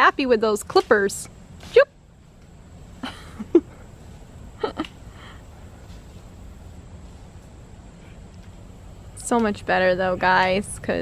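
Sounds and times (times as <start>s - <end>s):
steady low background noise: 0.0s - 11.0s.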